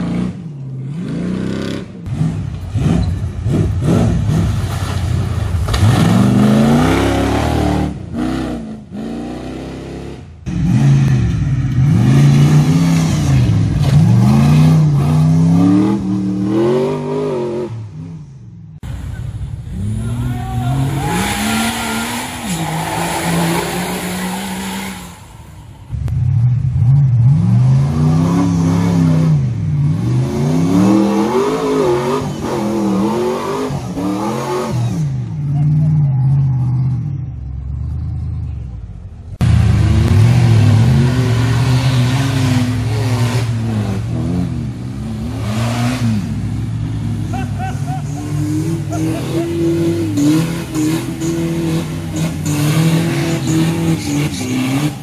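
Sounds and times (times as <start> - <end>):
off-road engines revving: 0.0 - 55.0.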